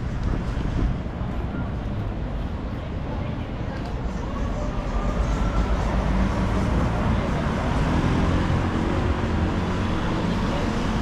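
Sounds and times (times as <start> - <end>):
city traffic: 0.0 - 11.0.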